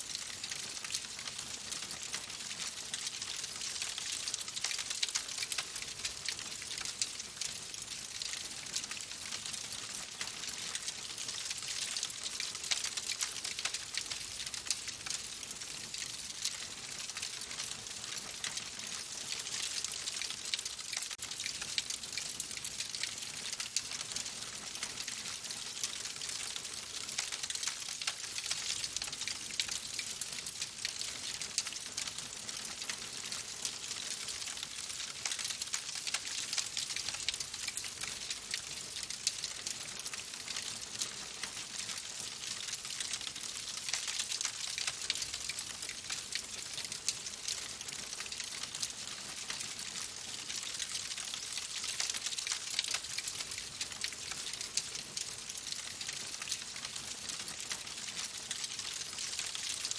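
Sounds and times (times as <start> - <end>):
wood fire crackling: 1.8 - 9.2, 9.8 - 56.8.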